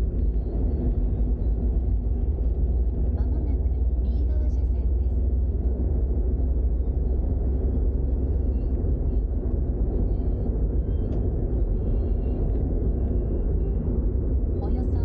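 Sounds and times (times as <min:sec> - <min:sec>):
car driving low rumble: 0:00.0 - 0:15.0
road and engine noise: 0:00.0 - 0:15.0.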